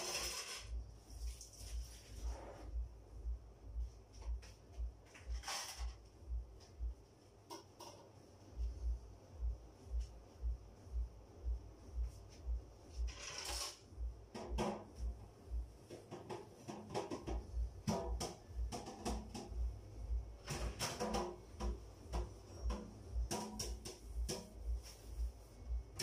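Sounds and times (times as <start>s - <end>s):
low rhythmic thud: 2.7s - 5.3s, 6.0s - 13.1s, 13.9s - 26.0s.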